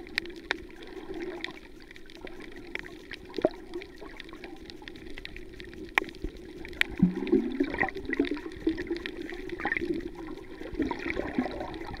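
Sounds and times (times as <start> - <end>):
underwater gurgling and bubbling: 0.0 - 12.0.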